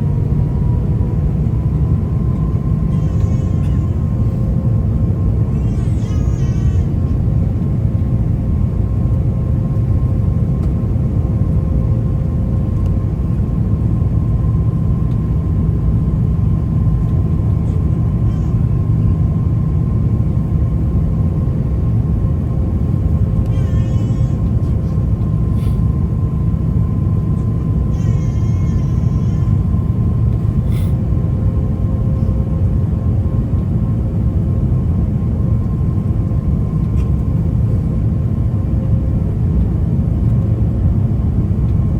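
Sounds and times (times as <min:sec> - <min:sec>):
aircraft cabin rumble: 0:00.0 - 0:41.9
constant hum tone: 0:00.0 - 0:41.9.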